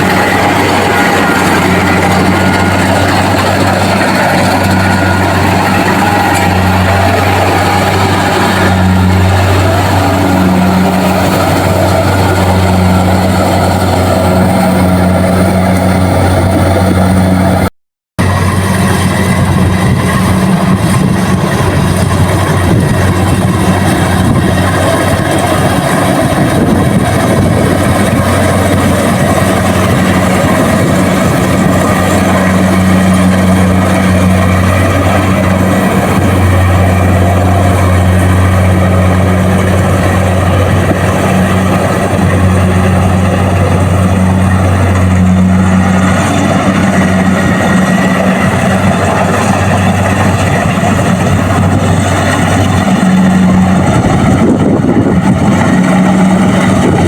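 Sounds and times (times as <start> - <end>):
combine harvester engine hum: 0.0 - 57.0
machinery clatter: 0.0 - 57.0.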